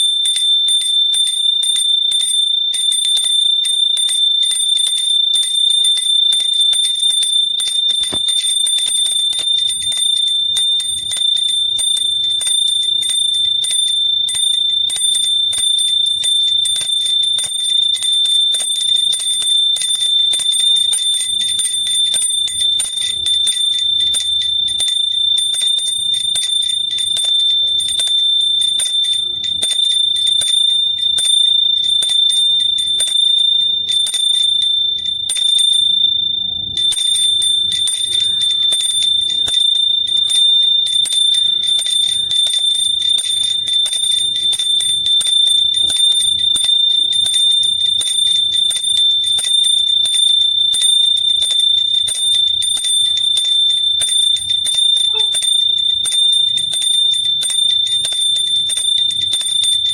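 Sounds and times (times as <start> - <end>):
hand bell ringing fast: 0.0 - 59.9.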